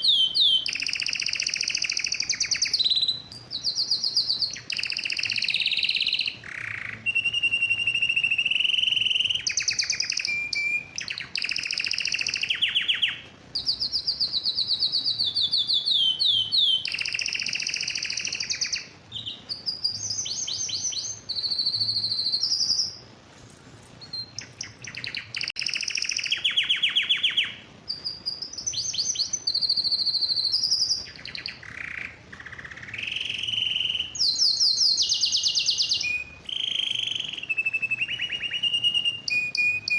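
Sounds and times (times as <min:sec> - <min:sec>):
canary singing trills: 0:00.0 - 0:23.2, 0:24.0 - 0:39.9.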